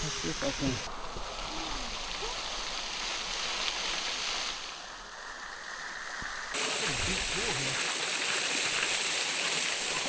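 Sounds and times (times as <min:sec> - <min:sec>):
waterfall rushing into pool: 0:00.0 - 0:10.0.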